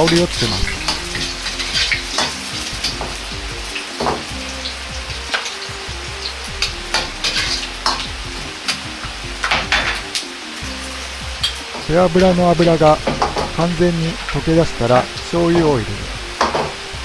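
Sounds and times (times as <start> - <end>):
onion and ginger sizzling in fat: 0.0 - 17.0.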